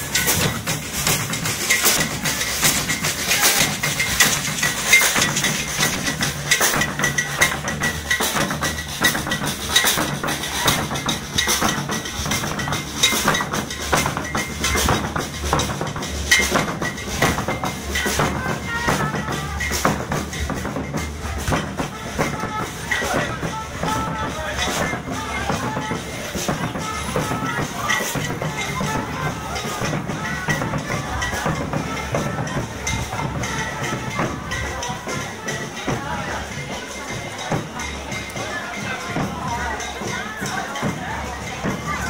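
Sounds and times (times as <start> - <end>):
street drum band playing: 0.0 - 42.0.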